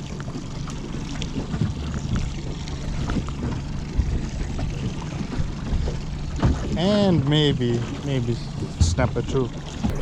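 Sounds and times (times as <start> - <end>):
water slapping against hull: 0.0 - 10.0.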